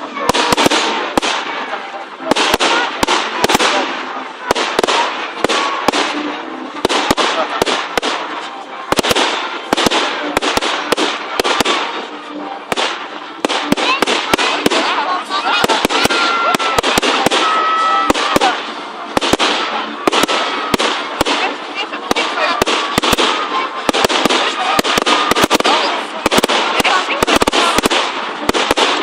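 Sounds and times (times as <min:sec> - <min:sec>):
fireworks bangs: 0:00.0 - 0:29.0
fireworks crackling hiss: 0:00.0 - 0:29.0.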